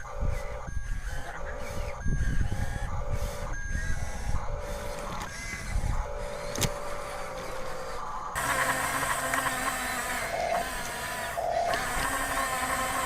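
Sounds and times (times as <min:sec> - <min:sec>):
electronic reversing beeps: 0:00.0 - 0:13.0
low rumble of toy running: 0:00.1 - 0:13.0.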